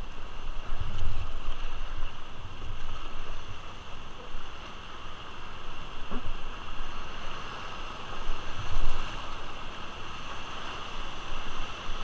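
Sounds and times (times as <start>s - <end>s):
rushing whitewater: 0.0s - 12.0s
wind buffeting microphone: 0.0s - 12.0s.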